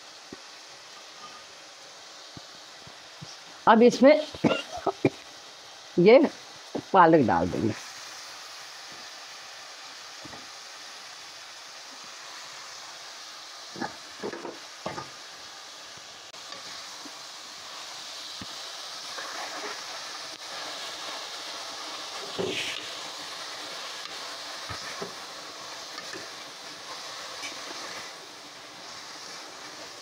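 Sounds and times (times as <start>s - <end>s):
spinach frying hissing: 0.0s - 30.0s.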